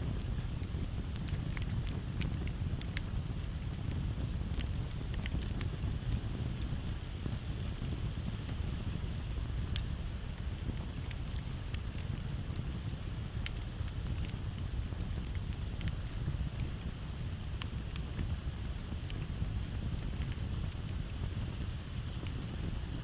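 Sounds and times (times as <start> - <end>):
campfire crackling and popping: 0.0 - 23.0
crickets chirping: 0.0 - 23.0.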